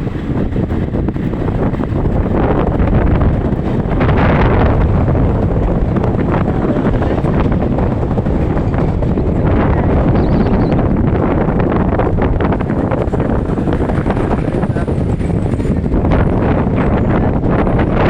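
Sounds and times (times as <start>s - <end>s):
sea: 0.0s - 18.0s
strong wind buffeting microphone: 0.0s - 18.0s.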